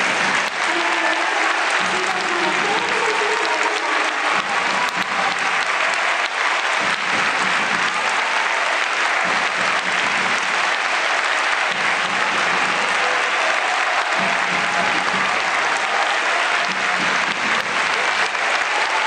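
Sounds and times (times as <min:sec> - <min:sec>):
stadium crowd applauding: 0:00.0 - 0:19.0.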